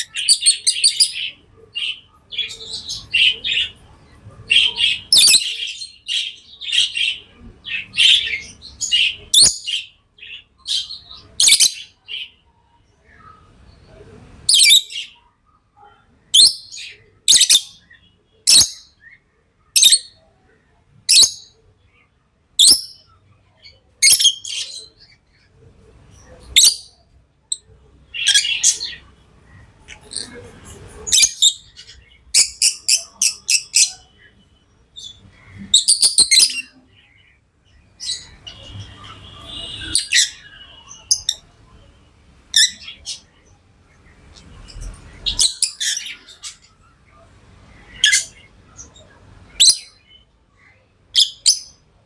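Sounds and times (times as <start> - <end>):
lovebirds chirping: 0.0 - 52.0.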